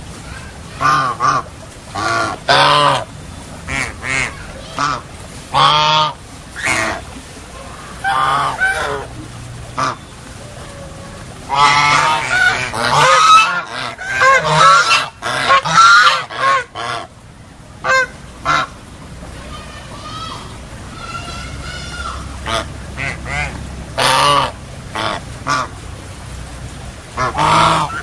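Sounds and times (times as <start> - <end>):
ducks quacking: 0.7 - 17.2, 17.8 - 18.8, 20.9 - 25.8, 27.1 - 28.0.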